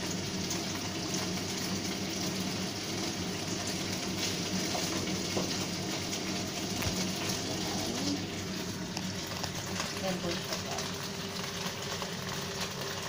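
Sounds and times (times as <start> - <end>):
pork sizzling in hot oil: 0.0 - 13.0.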